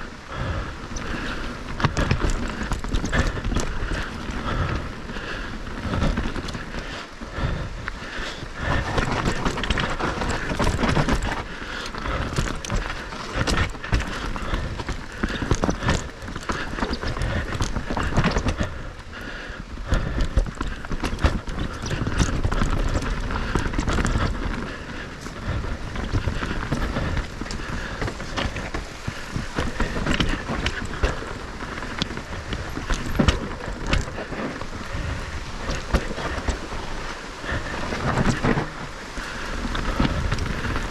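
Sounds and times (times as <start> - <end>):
wind rumbling on microphone: 0.0 - 40.9
tyres crunching over dirt: 0.3 - 7.4, 8.4 - 19.2, 19.9 - 40.9
bike knocks and rattles: 0.4 - 6.9, 8.6 - 18.8, 19.8 - 36.8.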